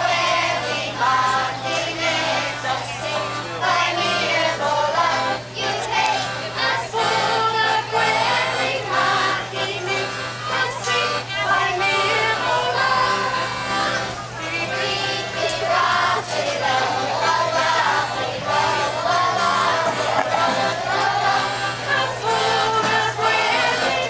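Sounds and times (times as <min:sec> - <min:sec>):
children's choir singing: 0:00.0 - 0:24.0
piano accordion: 0:00.0 - 0:24.0.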